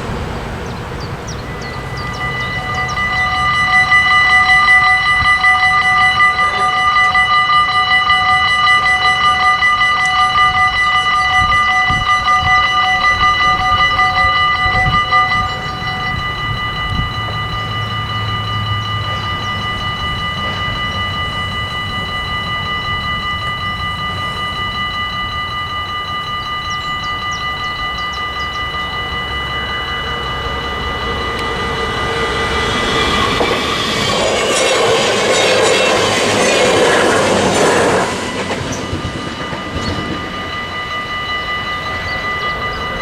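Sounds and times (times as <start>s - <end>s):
level-crossing warning bell ringing: 0.0s - 43.0s.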